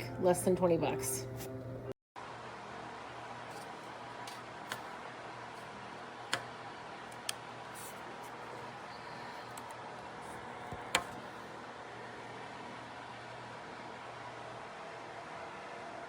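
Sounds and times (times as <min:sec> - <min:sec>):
room tone hiss: 0:00.0 - 0:16.0.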